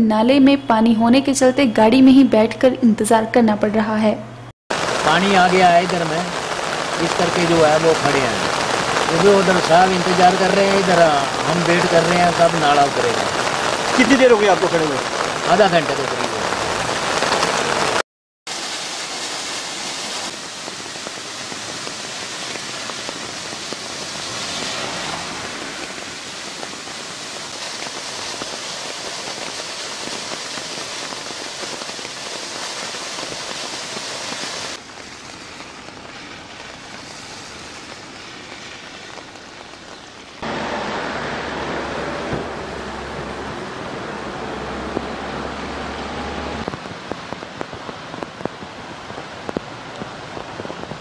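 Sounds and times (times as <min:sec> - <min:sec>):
water cascading down rock: 0:04.7 - 0:43.6, 0:44.6 - 0:51.0.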